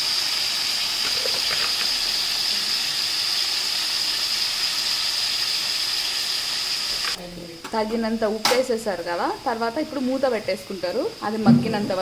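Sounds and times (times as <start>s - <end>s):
tomato sizzling in hot oil: 0.0s - 12.0s.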